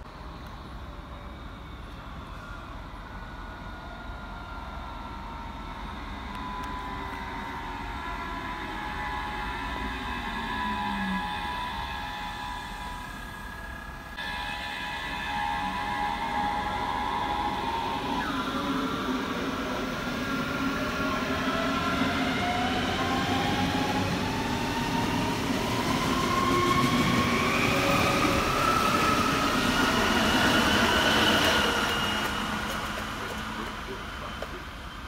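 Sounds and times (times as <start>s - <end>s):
electric train motors whining: 0.0s - 35.0s.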